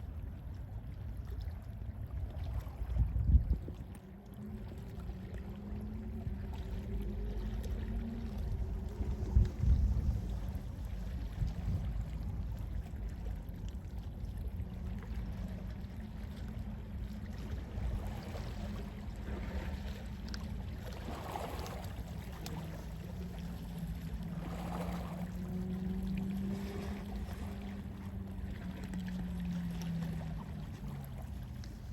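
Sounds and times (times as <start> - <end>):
sea waves washing in: 4.0 - 31.9.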